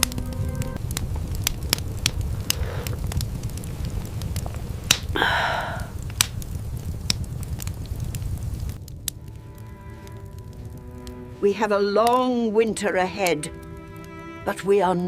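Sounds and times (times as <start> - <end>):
fire hissing: 0.0 - 15.0
wood fire crackling: 0.0 - 15.0.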